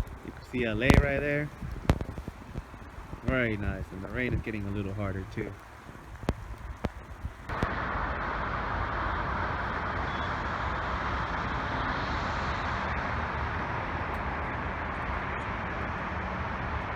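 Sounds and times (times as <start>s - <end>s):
low rumble: 0.0s - 16.9s
vehicle road noise: 0.0s - 16.9s.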